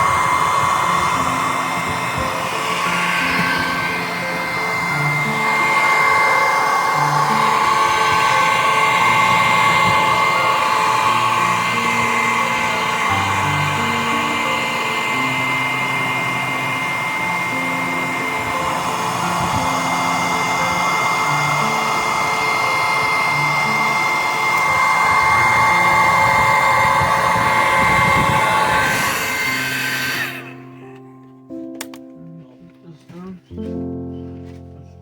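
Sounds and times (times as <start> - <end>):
hair dryer blowing: 0.0 - 30.8
faint music: 0.0 - 35.0.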